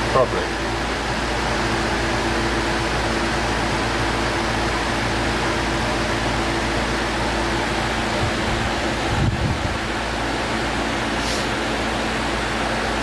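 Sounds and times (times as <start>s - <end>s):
condenser fan motor running: 0.0s - 13.0s.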